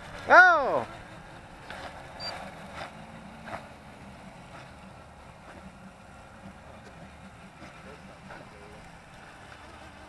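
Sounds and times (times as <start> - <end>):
small electric boat motors: 0.0 - 10.0.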